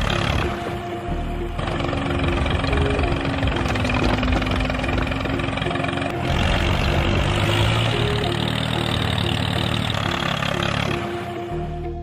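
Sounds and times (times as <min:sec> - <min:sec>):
background music with repeating melody: 0:00.0 - 0:12.0
model tractor engine hum: 0:00.0 - 0:12.0.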